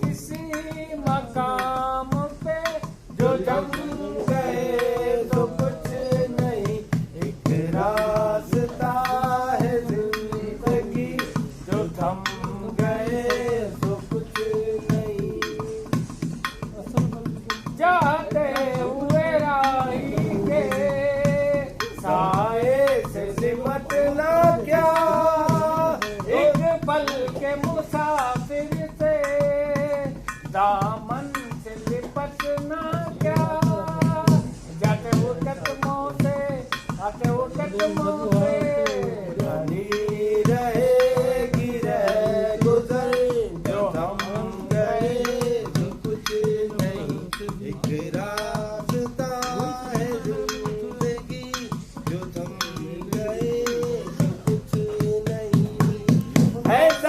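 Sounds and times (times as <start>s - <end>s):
percussion beats: 0.0s - 57.0s.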